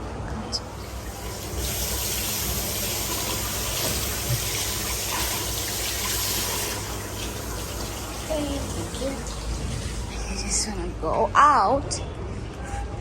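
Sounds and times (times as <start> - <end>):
running water rushing: 0.6 - 11.1.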